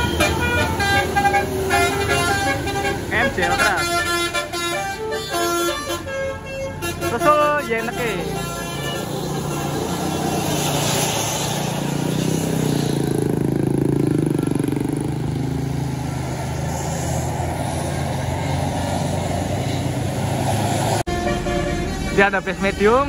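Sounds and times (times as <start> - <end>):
bus engine passing: 0.0 - 23.0.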